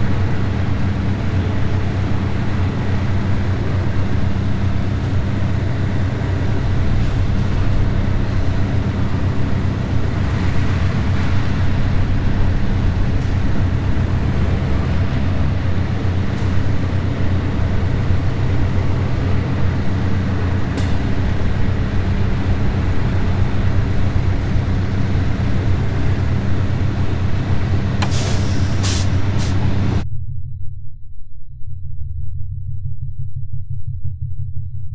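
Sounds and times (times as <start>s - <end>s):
road and wind noise: 0.0s - 30.0s
truck engine drone: 0.0s - 30.0s
low hum: 0.0s - 34.9s.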